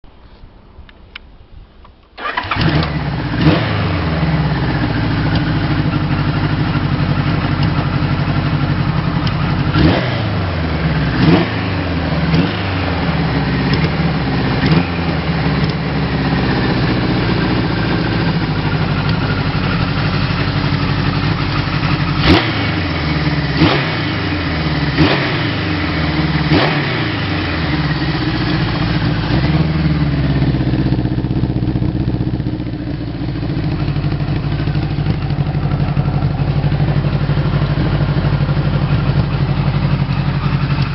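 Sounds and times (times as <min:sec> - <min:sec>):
motorcycle engine idling: 0:02.2 - 0:40.9.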